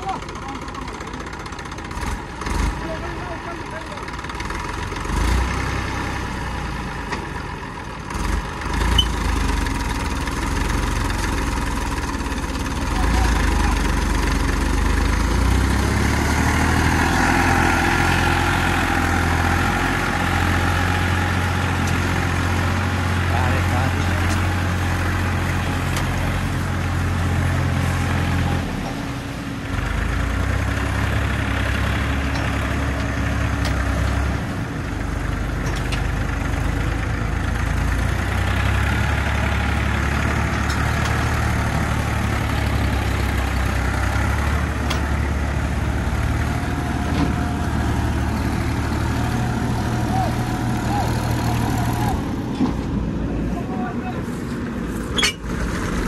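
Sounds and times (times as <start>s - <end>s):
tractor engine labouring: 0.0s - 56.0s.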